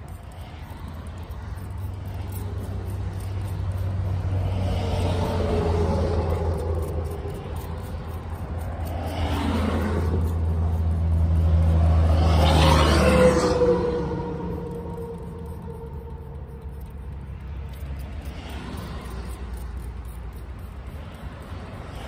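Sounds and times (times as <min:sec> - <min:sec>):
cars passing by: 0:00.0 - 0:22.0.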